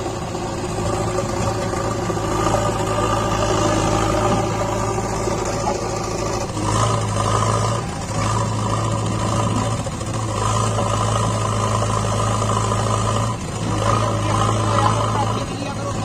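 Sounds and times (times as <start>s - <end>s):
backhoe loader diesel engine running: 0.0s - 16.0s.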